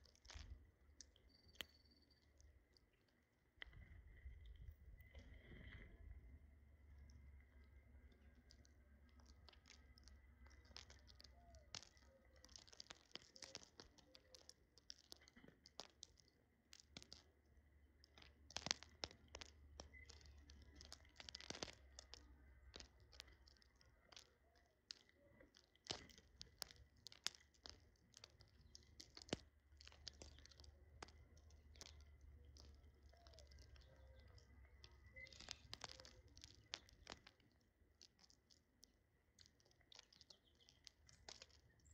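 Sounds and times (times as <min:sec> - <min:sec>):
birds pecking and cracking food: 0:00.0 - 0:41.9.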